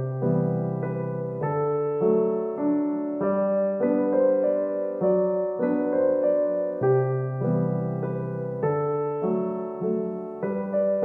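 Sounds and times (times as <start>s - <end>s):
piano melody: 0.0s - 11.0s.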